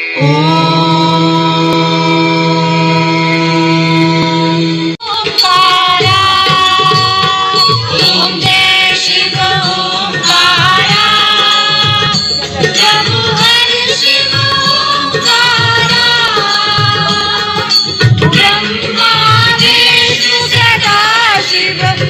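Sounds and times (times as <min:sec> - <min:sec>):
devotional song with percussion: 0:00.0 - 0:22.0.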